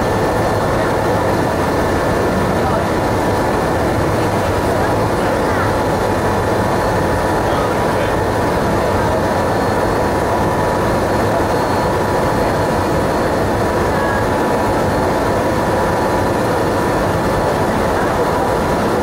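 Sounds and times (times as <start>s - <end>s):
airliner cabin engine noise: 0.0s - 19.0s.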